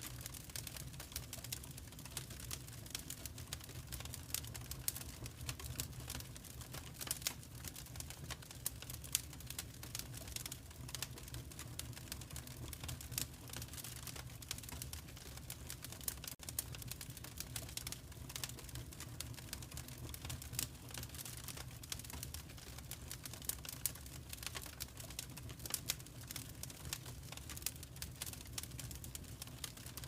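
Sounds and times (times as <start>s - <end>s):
wood fire crackling and popping: 0.0s - 30.0s
low fire rumble: 0.1s - 30.0s.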